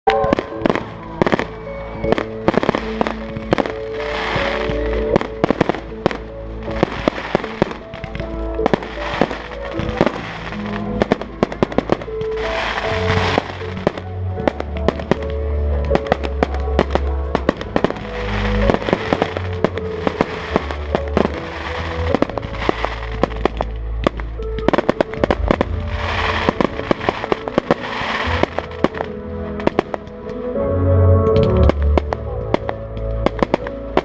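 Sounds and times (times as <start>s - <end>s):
fireworks bangs and crackling: 0.1s - 30.6s, 31.2s - 34.0s
music with bass notes: 0.1s - 34.0s.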